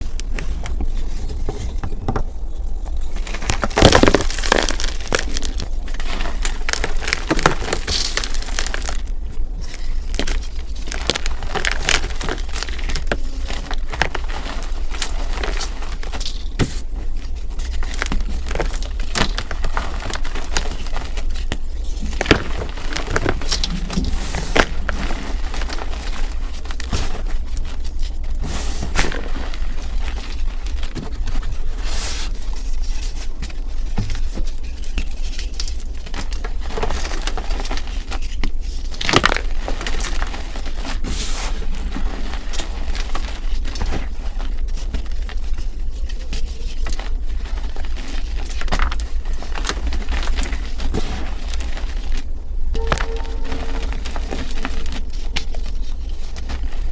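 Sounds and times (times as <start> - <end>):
chalk cracking and crunching: 0.0 - 56.9
steady low hum: 0.0 - 56.9.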